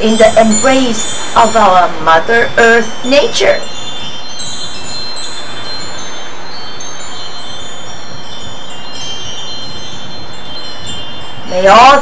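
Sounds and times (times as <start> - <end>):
steady hiss: 0.0 - 12.0
wind chimes ringing: 0.0 - 12.0.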